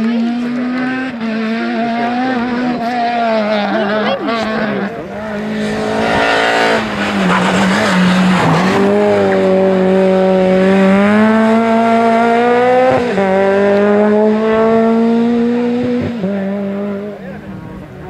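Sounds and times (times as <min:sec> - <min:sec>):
rally car engine accelerating: 0:00.0 - 0:18.0
tyre noise: 0:00.0 - 0:18.0.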